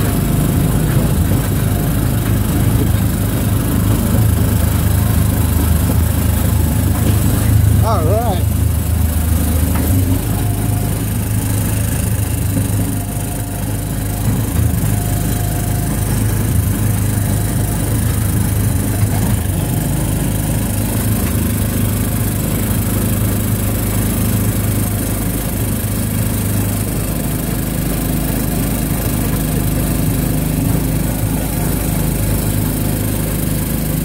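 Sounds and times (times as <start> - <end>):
small gasoline engine running: 0.0 - 34.0.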